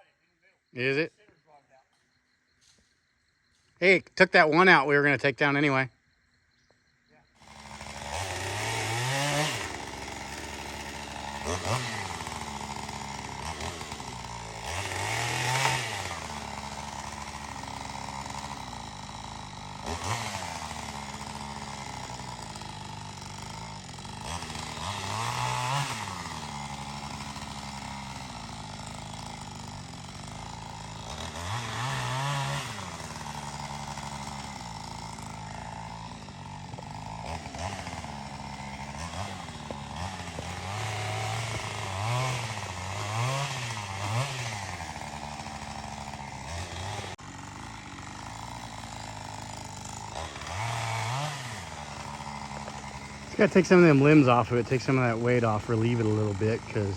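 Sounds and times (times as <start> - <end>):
chainsaw engine revving: 7.3 - 56.9.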